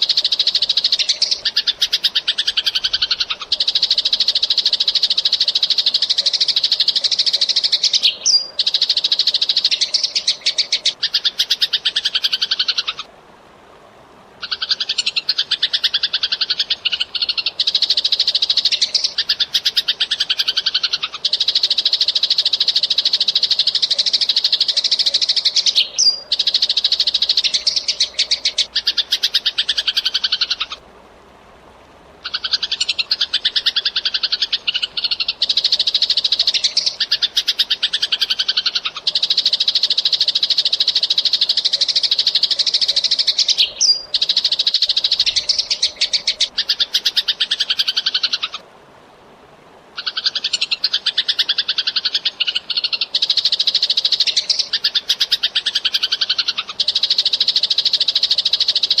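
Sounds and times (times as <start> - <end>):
sparrow chirping: 0.0 - 13.1, 14.4 - 30.8, 32.2 - 48.6, 50.0 - 59.0.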